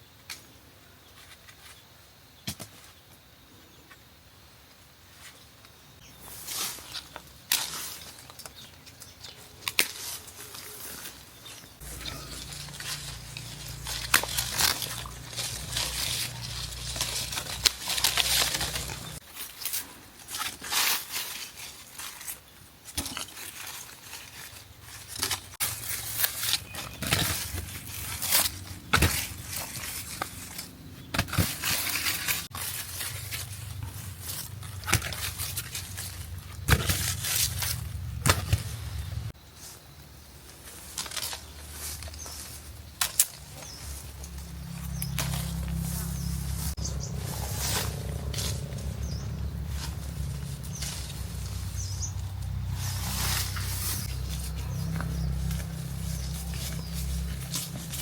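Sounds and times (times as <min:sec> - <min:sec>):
rustling and crackling: 0:06.0 - 0:58.0.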